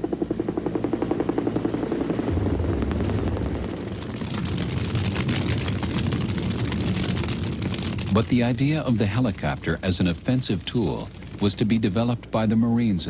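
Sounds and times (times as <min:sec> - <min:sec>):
deep rumble with crackle: 0:00.0 - 0:13.0
helicopter rotor beating: 0:00.0 - 0:13.0.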